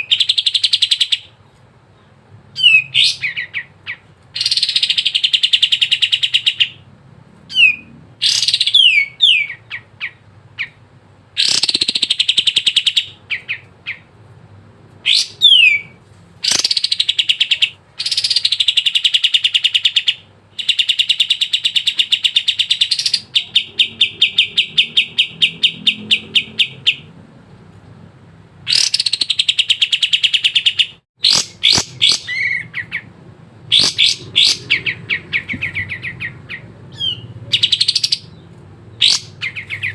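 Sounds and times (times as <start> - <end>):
songbird trilling: 2.6 - 6.8, 7.5 - 10.8, 11.4 - 14.1, 15.0 - 27.1, 28.7 - 33.1, 33.7 - 39.9.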